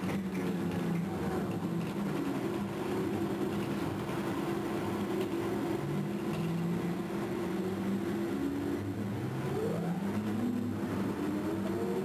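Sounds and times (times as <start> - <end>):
mining shovel machinery hum: 0.0 - 12.0.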